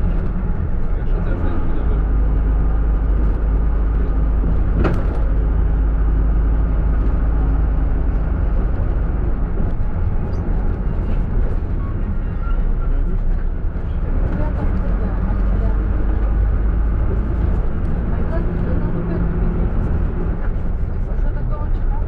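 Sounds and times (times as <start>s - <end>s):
minibus engine and road noise: 0.0s - 22.0s.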